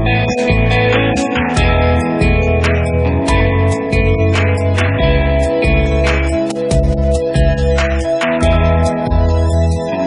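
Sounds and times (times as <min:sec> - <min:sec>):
instrumental music with guitar: 0:00.0 - 0:10.0.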